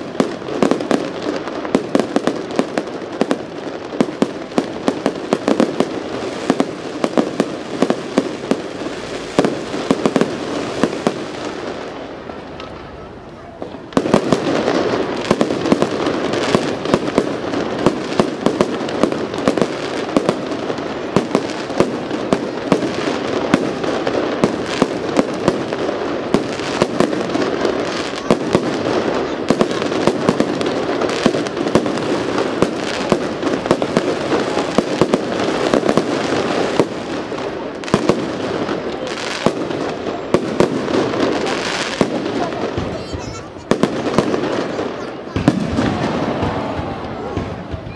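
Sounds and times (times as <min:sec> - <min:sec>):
fireworks bangs and crackle: 0:00.0 - 0:47.9.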